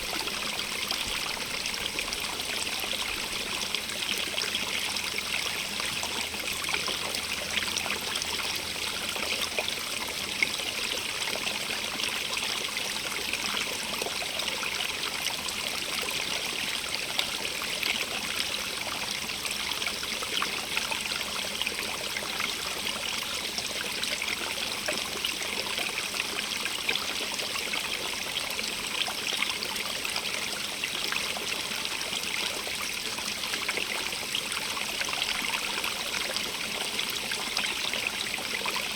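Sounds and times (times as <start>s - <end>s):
stream running over stones: 0.0s - 38.9s.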